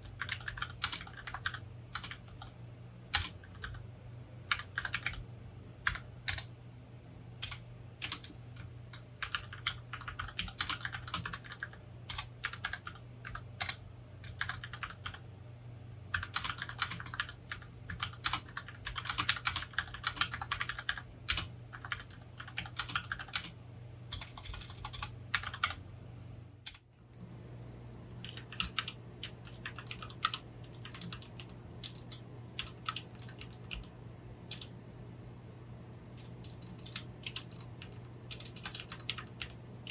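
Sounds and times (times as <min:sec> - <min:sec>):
mechanical keyboard typing: 0:00.0 - 0:03.8, 0:04.5 - 0:06.5, 0:07.4 - 0:15.2, 0:16.1 - 0:25.8, 0:26.7 - 0:26.9, 0:28.2 - 0:34.8, 0:36.2 - 0:39.9
low steady hum: 0:00.0 - 0:39.9.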